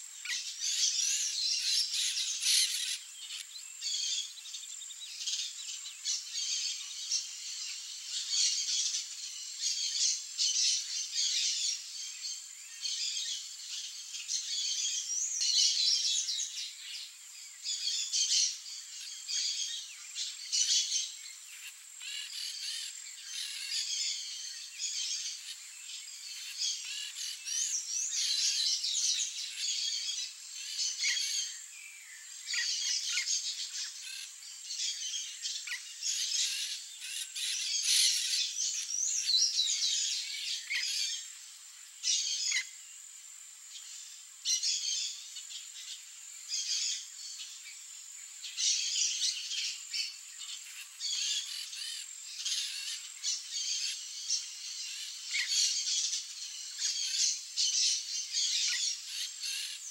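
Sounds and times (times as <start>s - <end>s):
birds chirping and chattering: 0.2s - 31.7s, 32.3s - 41.4s, 48.4s - 59.9s.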